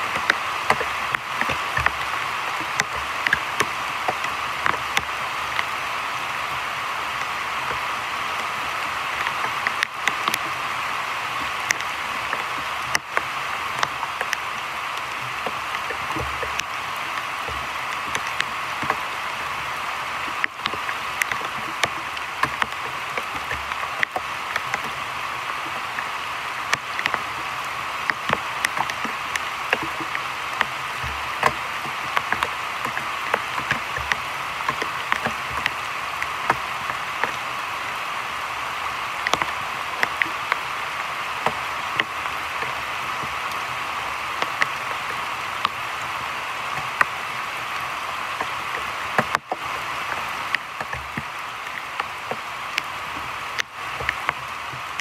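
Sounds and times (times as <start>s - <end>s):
heavy rain on water: 0.0s - 55.0s.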